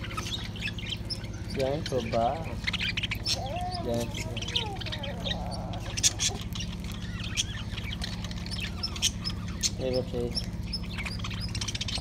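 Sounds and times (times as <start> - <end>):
budgerigars chirping and chattering: 0.0 - 12.0
steady low hum: 0.0 - 12.0.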